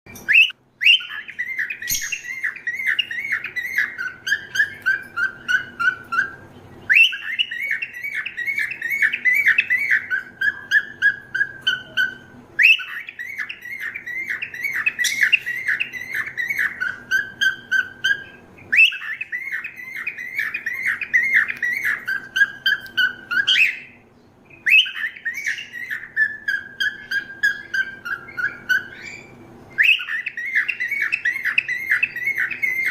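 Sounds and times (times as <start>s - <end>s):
cockatiel chirping: 0.2s - 32.9s.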